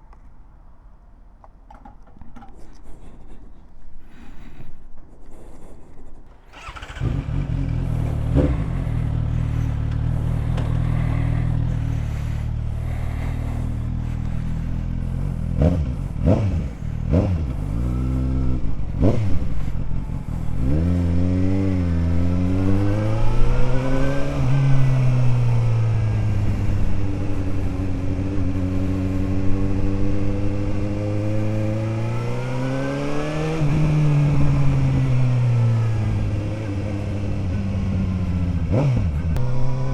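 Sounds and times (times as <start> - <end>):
motorcycle engine revving: 6.5 - 39.9.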